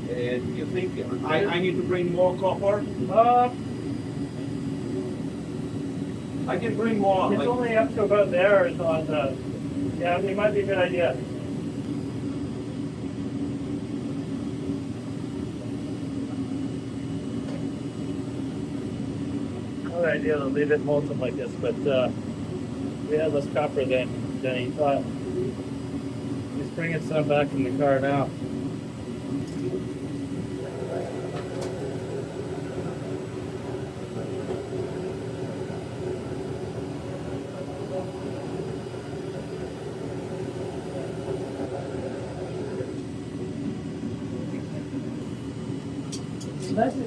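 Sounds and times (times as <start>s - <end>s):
furnace burner running: 0.0s - 47.0s.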